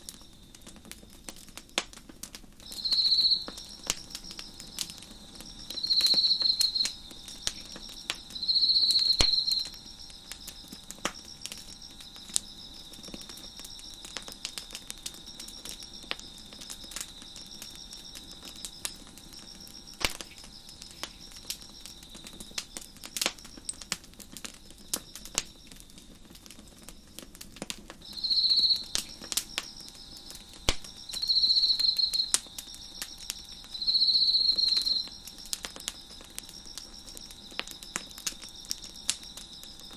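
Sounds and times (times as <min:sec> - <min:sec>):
crickets chirping chorus: 0:00.0 - 0:39.9
wood fire crackling and popping: 0:00.0 - 0:39.9
close cricket trilling loudly: 0:02.6 - 0:26.0, 0:28.0 - 0:39.9.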